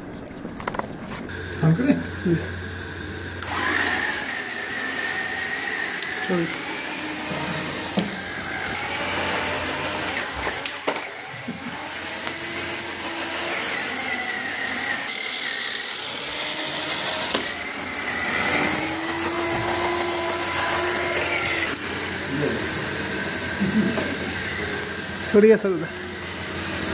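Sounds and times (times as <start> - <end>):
toy motor whirring: 3.3 - 26.9.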